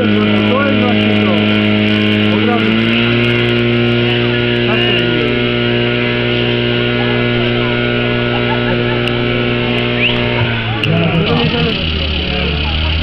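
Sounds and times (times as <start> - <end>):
pump engine running: 0.0 - 13.0.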